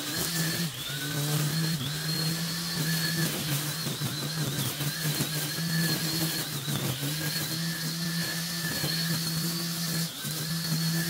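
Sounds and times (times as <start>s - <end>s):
string trimmer cutting grass: 0.0s - 11.0s.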